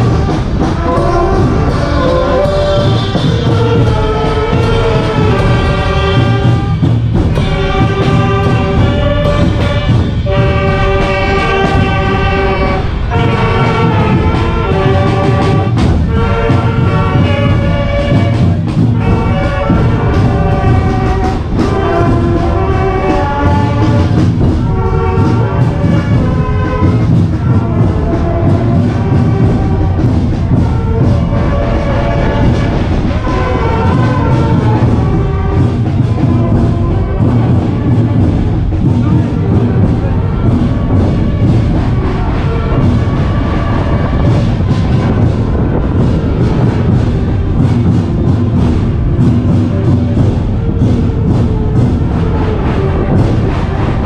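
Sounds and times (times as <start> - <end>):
brass instruments playing melody: 0.0 - 54.0.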